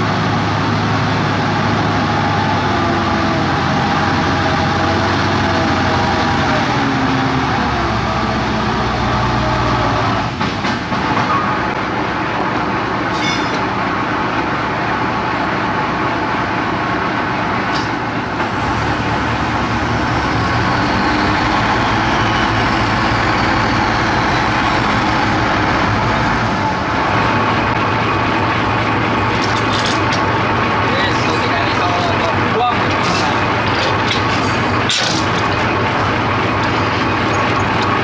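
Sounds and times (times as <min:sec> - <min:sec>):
truck diesel engine running: 0:00.0 - 0:38.0.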